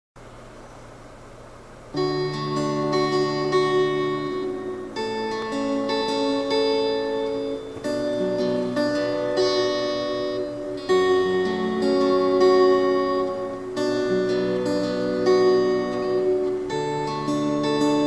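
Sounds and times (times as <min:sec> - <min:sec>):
acoustic guitar music: 0:00.4 - 0:18.0.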